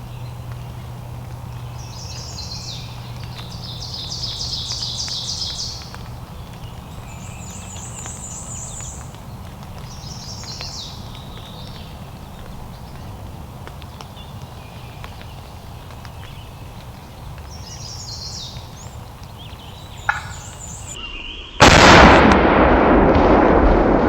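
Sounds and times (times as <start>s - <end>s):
low background rumble: 0.0s - 21.0s
songbirds trilling: 0.0s - 21.0s.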